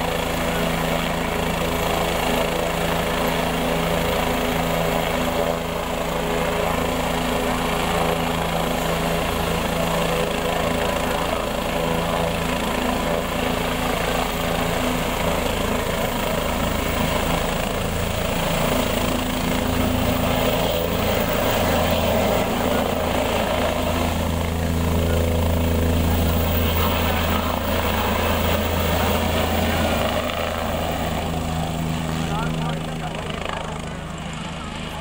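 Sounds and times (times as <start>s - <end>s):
helicopter engine and rotor drone: 0.0s - 35.0s.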